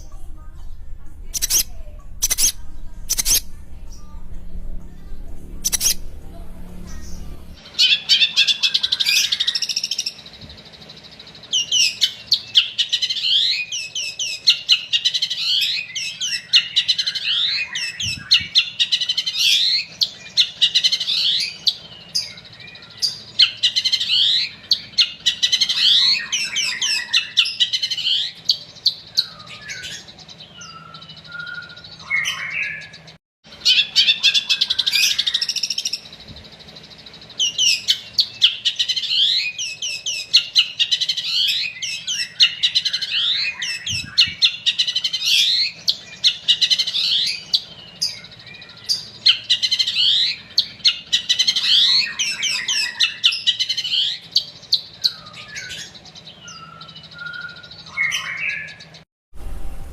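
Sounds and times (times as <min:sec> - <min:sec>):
bird chattering song: 0:00.0 - 0:59.0.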